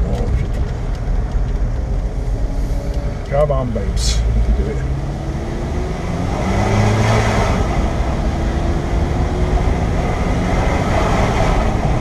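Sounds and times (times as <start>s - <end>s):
car engine under load: 0.0s - 12.0s
road and wind noise: 0.0s - 12.0s.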